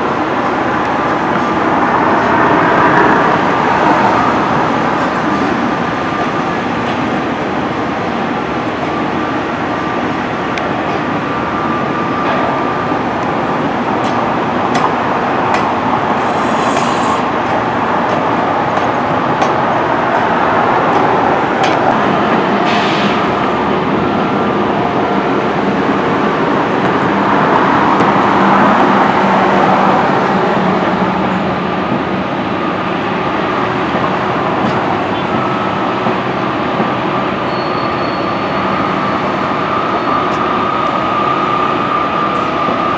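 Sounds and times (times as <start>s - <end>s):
train running on track: 0.0s - 42.9s.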